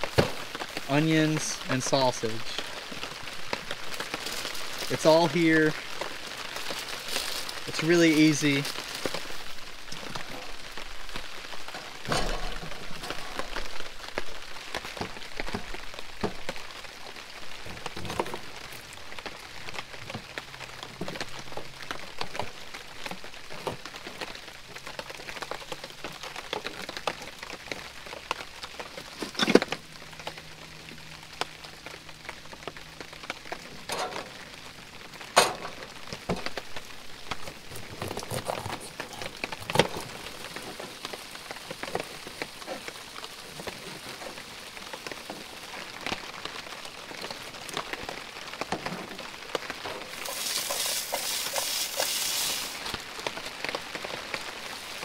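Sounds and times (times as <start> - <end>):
rain on a tarp: 0.0 - 55.0.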